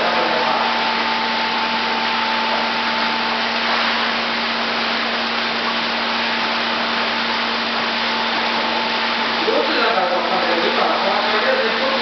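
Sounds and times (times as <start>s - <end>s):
constant machine hum: 0.0s - 12.0s.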